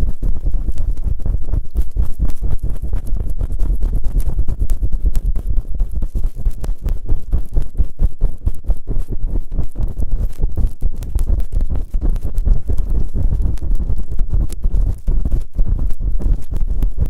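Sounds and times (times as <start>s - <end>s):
low rumble: 0.0s - 17.0s
rubbing and scratching on microphone: 0.0s - 17.0s.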